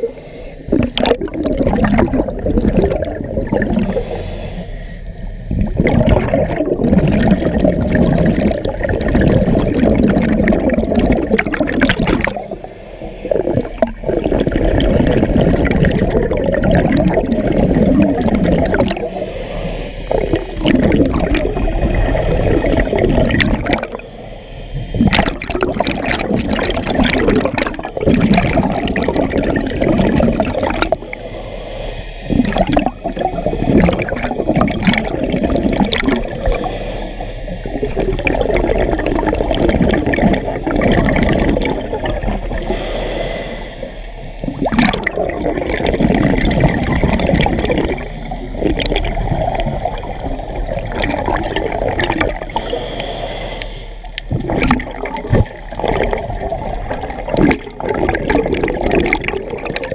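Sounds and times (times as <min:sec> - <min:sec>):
underwater exhaled bubbles: 0:00.0 - 0:59.9.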